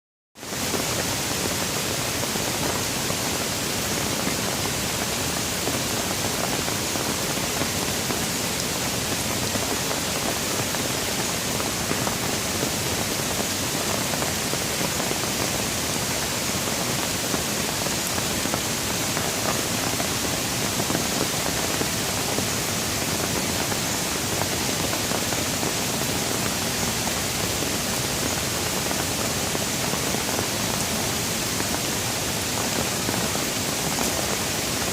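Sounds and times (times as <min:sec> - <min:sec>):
rain falling: 0:00.4 - 0:34.9.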